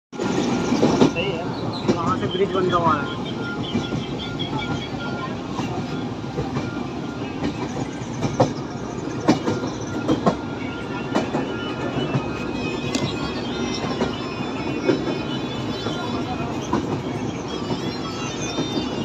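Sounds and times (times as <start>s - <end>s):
train rumble and rattle: 0.1s - 19.0s
wheels clacking over rail joints: 0.2s - 19.0s.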